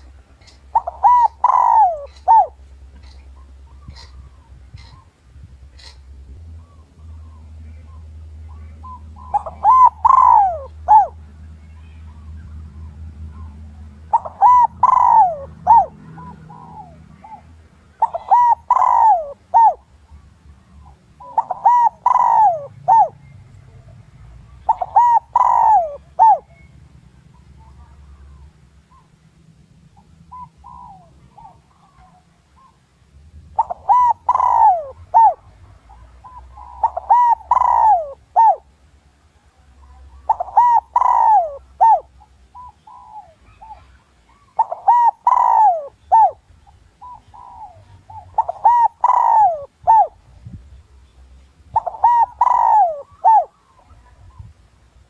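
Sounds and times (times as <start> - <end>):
dove cooing: 0.0 - 11.3, 12.1 - 26.7, 30.0 - 38.9, 39.6 - 50.3, 51.6 - 54.6.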